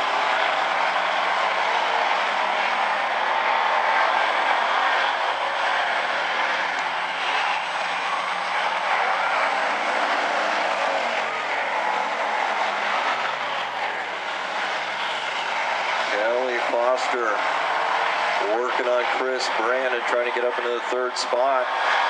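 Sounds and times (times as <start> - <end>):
race car engines droning: 0.0 - 22.0.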